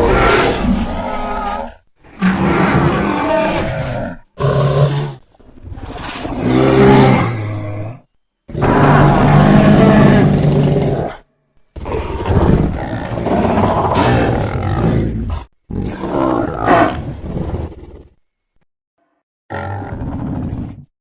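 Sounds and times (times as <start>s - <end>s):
dinosaur roars and growls: 0.0s - 18.2s, 19.5s - 20.9s.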